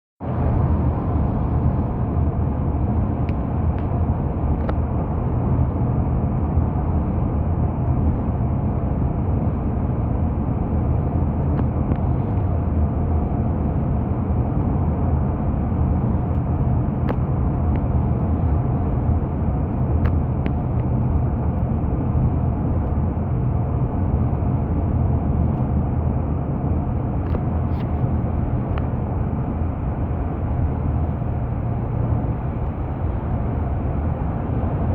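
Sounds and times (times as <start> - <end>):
car road and engine rumble: 0.2 - 34.9.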